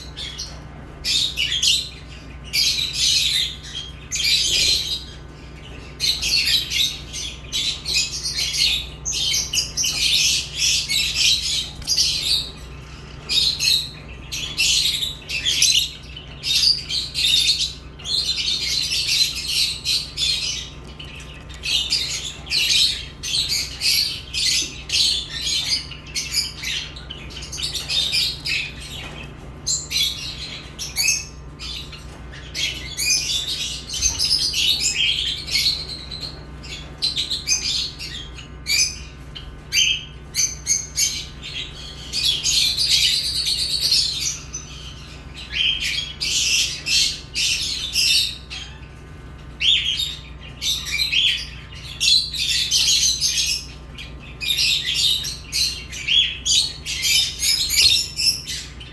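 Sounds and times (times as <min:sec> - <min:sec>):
lovebirds chirping and squawking: 0:00.0 - 0:58.9.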